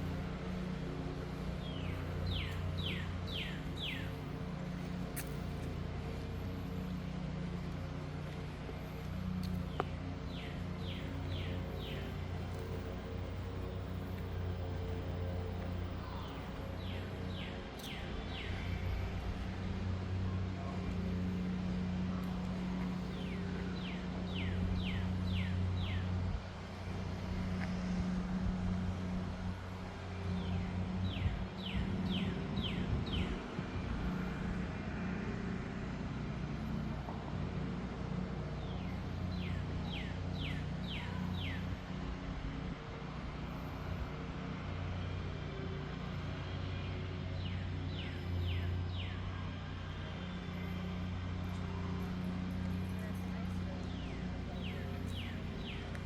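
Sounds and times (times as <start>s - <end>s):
distant traffic rumble: 0.0s - 56.0s.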